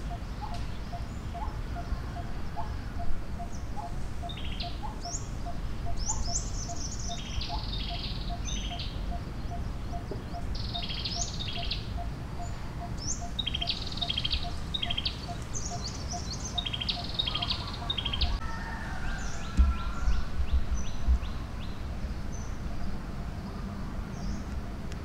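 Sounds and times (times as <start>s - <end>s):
birds singing: 0.0s - 25.0s.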